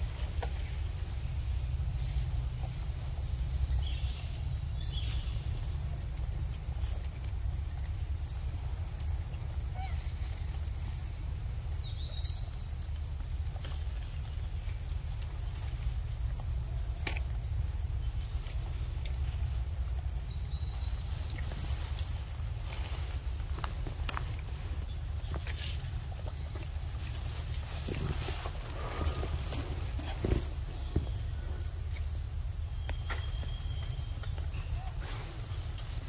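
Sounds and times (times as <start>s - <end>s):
continuous low rumble: 0.0s - 36.0s.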